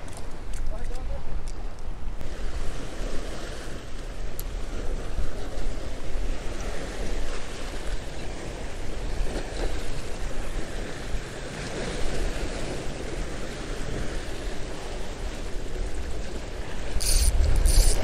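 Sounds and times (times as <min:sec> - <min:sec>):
sea waves breaking on rocks: 0:00.0 - 0:18.0
wind buffeting microphone: 0:00.0 - 0:18.0.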